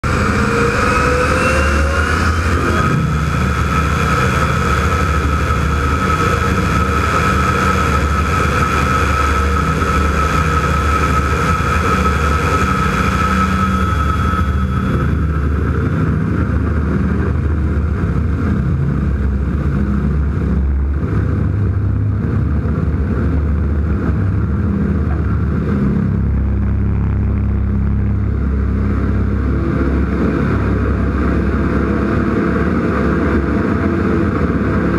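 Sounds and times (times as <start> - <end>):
high whine: 0.0 - 34.9
plane engine and propeller: 0.0 - 34.9.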